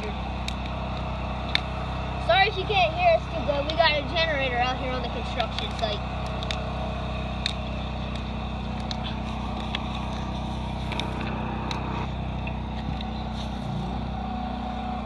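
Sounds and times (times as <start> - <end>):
portable generator engine running: 0.0 - 15.0.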